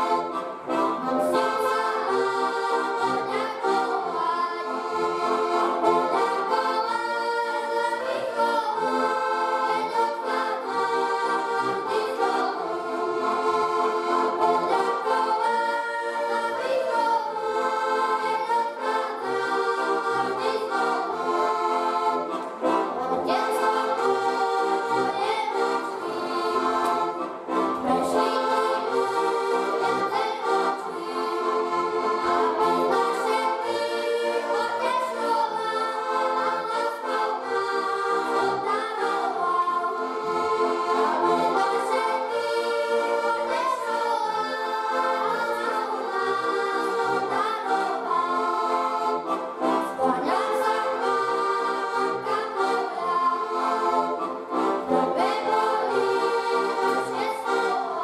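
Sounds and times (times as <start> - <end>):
button accordions playing folk tune: 0.0 - 58.0
children singing: 0.0 - 58.0.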